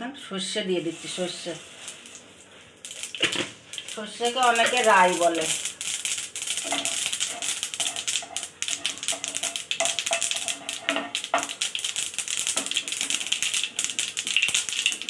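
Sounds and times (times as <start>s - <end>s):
seeds crackling in hot oil: 0.6s - 15.0s.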